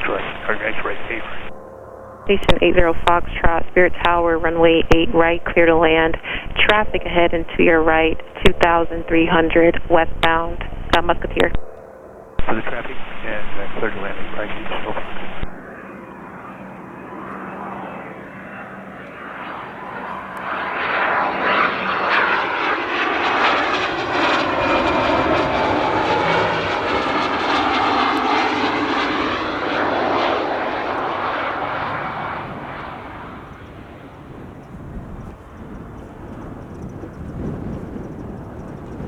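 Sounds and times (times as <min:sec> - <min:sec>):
jet engines passing: 0:00.0 - 0:39.0.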